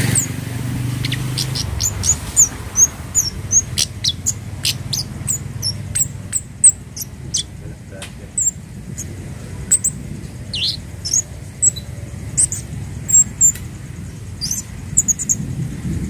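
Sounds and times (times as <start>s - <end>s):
bird giving high thin chirps: 0.0s - 7.6s, 8.3s - 9.1s, 9.7s - 13.7s, 14.3s - 15.4s
steady low hum: 0.0s - 16.0s.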